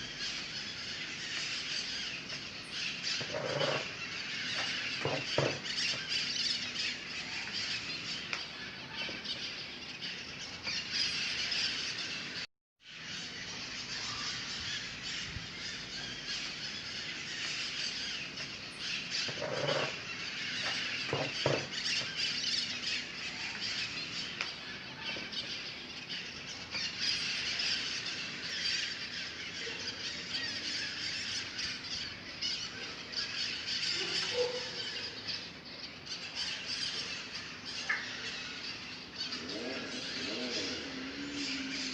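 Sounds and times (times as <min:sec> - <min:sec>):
flock of birds chirping: 0:00.0 - 0:41.9.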